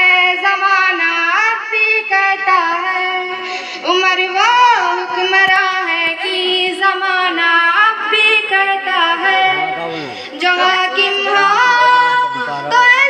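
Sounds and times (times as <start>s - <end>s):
child singing unaccompanied: 0.0s - 13.0s.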